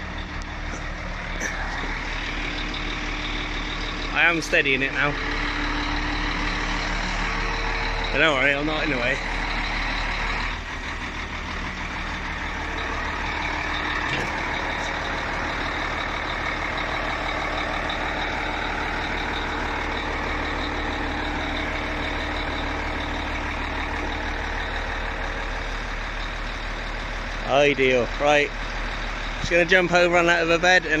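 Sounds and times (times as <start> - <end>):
truck engine and crane hydraulics: 0.0 - 31.0.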